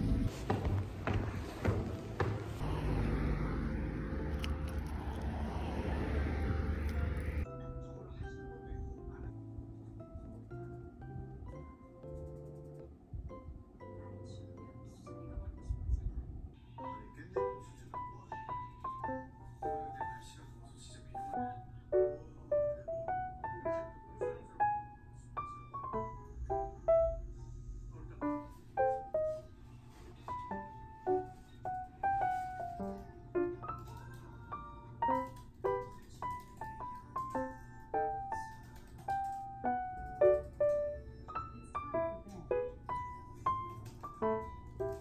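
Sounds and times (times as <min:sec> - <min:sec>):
soft piano melody: 0:00.0 - 0:45.0.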